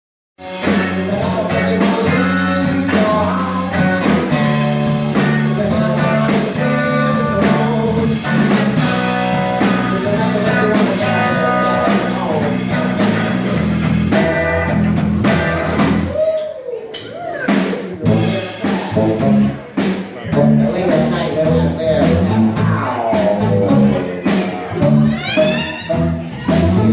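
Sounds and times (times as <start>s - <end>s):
drums steady beat: 0.4s - 26.9s
live blues band: 0.4s - 26.9s.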